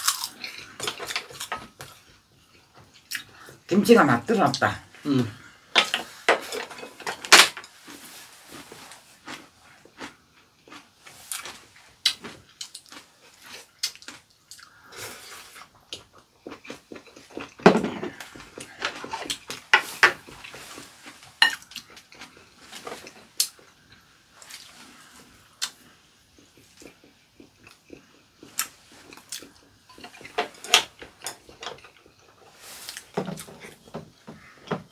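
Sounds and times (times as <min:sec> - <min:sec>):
people chewing: 0:00.0 - 0:03.7, 0:04.4 - 0:34.9.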